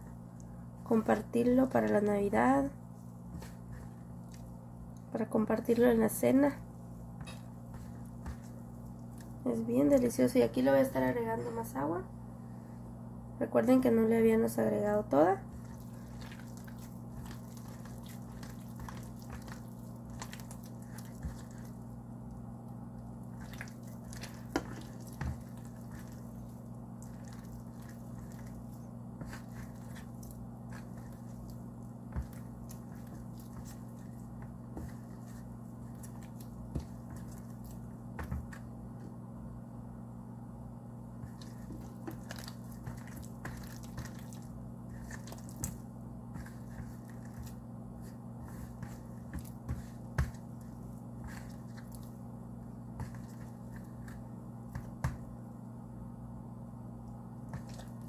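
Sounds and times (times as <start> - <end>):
dough squishing: 0.0 - 11.6, 14.4 - 39.3, 41.0 - 55.5, 57.0 - 58.0
steady low hum: 0.0 - 58.0.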